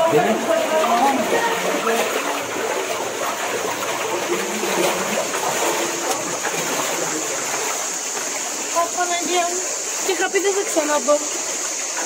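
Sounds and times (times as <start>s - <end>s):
water flowing and splashing: 0.0s - 12.0s.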